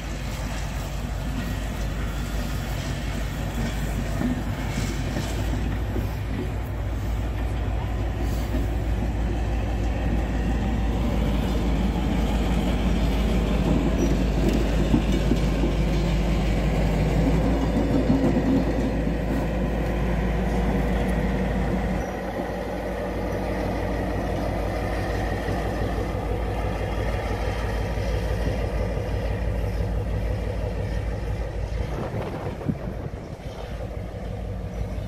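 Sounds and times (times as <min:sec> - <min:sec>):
diesel locomotive engine: 0:00.0 - 0:35.0
train wheels on rails: 0:00.0 - 0:35.0.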